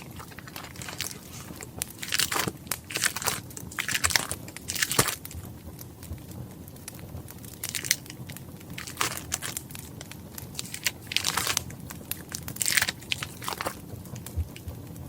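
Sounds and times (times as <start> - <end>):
paper crinkling and tearing: 0.0 - 5.3, 7.5 - 14.7
wood fire crackling: 0.0 - 15.0.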